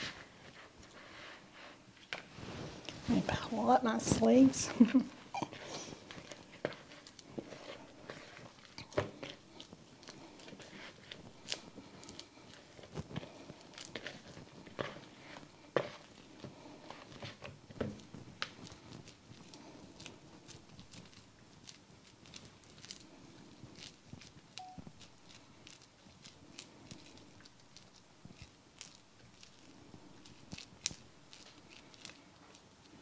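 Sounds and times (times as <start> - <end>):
hands squishing cheese mixture: 4.2 - 33.0.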